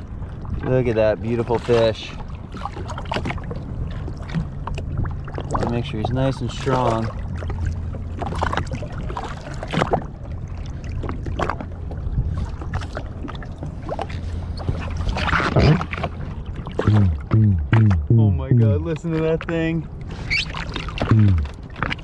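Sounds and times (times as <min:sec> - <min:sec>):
water splashing against hull: 0:00.0 - 0:22.0.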